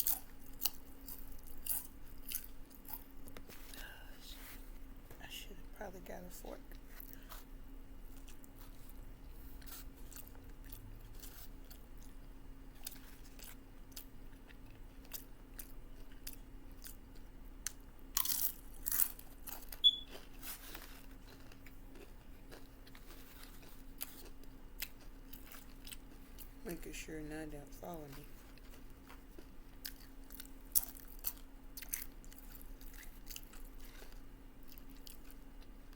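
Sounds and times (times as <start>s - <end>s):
person chewing crunchy chips: 0.0s - 4.1s, 6.7s - 26.8s, 27.8s - 35.9s.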